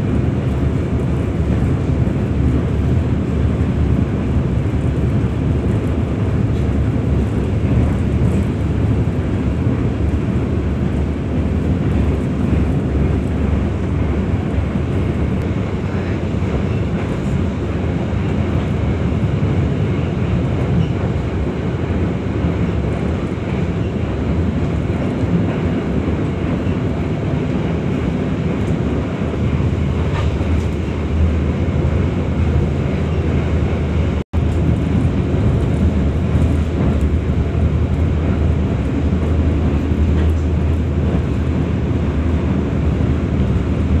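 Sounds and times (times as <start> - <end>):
train rumble and rail noise: 0.0 - 44.0.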